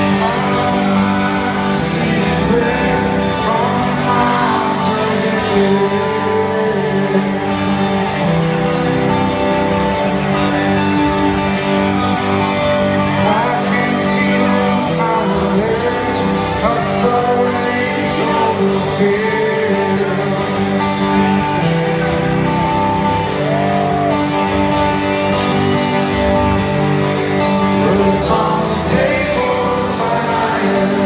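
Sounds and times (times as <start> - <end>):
person singing: 0.0 - 10.2, 12.4 - 25.4, 27.4 - 31.0
guitars picking held notes: 0.0 - 31.0.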